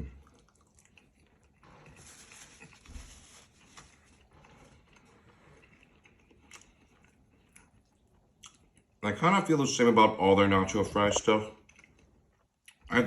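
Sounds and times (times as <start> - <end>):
faint chewing: 0.0 - 9.1, 10.7 - 13.0.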